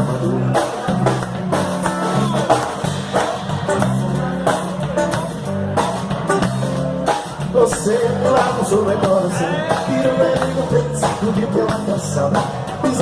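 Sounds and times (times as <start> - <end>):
popular song with guitar and beat: 0.0 - 13.0.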